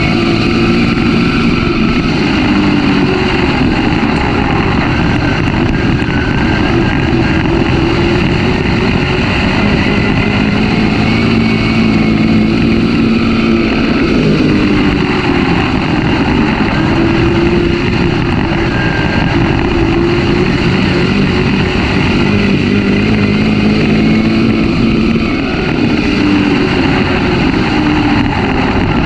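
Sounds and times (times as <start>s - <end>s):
race car engine running hard: 0.0s - 29.0s.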